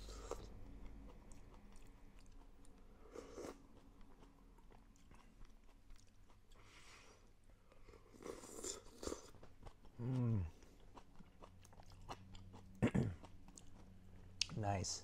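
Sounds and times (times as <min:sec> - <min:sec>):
chewing and crunching food: 0:00.0 - 0:14.6.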